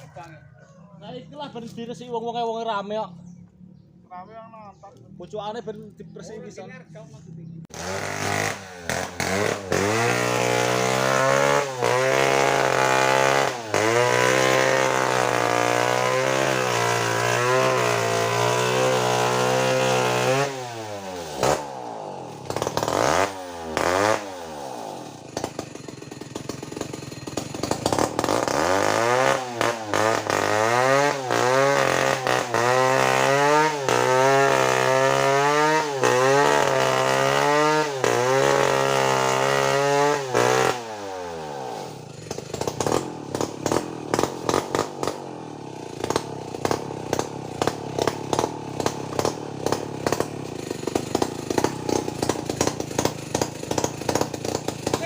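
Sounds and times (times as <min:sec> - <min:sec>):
chainsaw cutting wood: 0:07.7 - 0:55.0.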